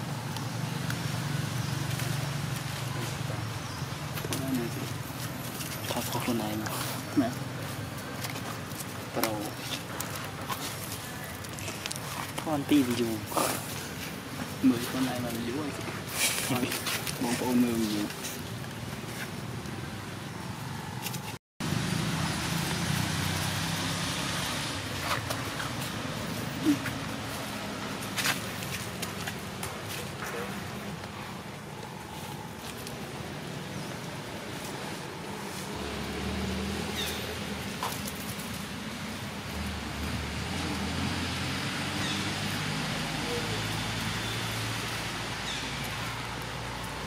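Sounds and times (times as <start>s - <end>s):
outdoor background hiss: 0.0s - 47.0s
road noise: 0.0s - 47.0s.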